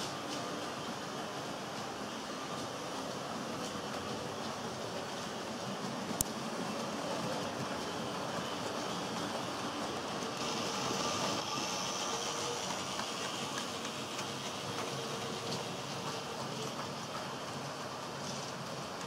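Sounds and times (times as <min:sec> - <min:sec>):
model train wheels rattling on rails: 0:00.0 - 0:19.0.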